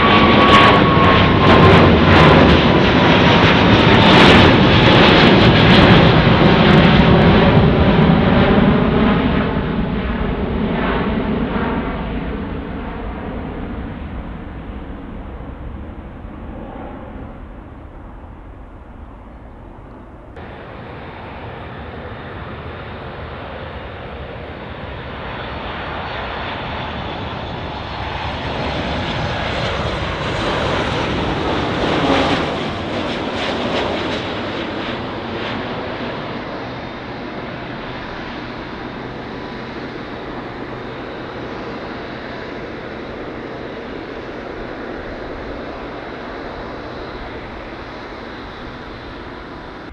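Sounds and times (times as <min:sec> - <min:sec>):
jet airliner roaring past: 0:00.0 - 0:49.9.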